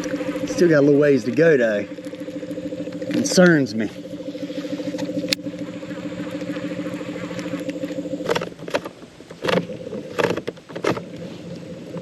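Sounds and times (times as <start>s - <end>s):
electric motor humming: 0.0s - 10.4s.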